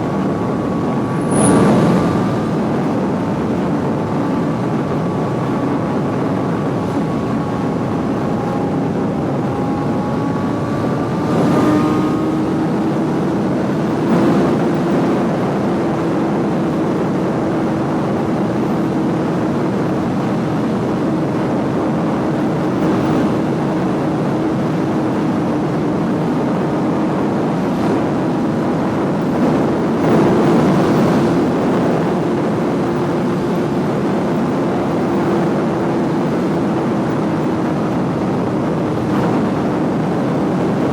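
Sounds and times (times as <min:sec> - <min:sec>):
motorcycle engine cruising: 0:00.0 - 0:40.9
wind rush: 0:00.0 - 0:40.9.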